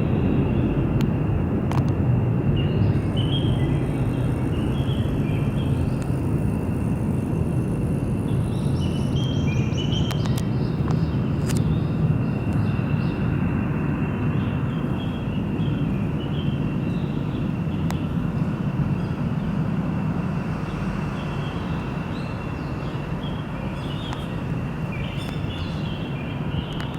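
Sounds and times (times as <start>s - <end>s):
deep jet rumble: 0.0s - 26.9s.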